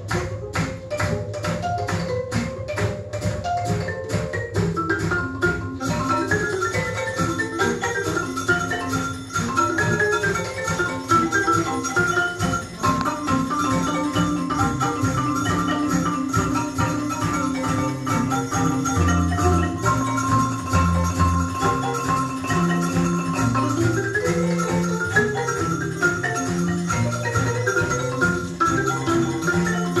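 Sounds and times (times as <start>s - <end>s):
mallet percussion melody: 0.0s - 30.0s.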